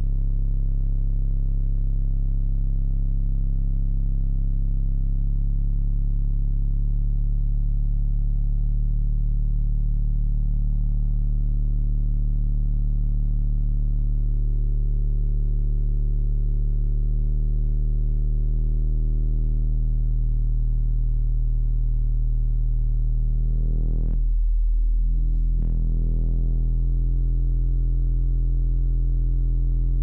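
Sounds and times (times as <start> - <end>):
subwoofers playing low bass tone: 0.0 - 30.0.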